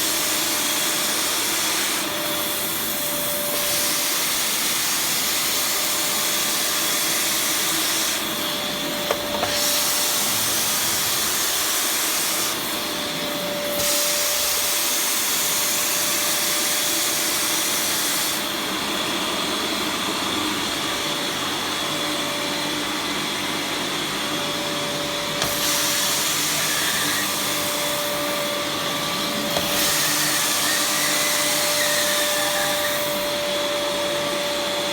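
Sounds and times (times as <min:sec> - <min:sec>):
steam vacuum cleaner running: 0:00.0 - 0:34.9.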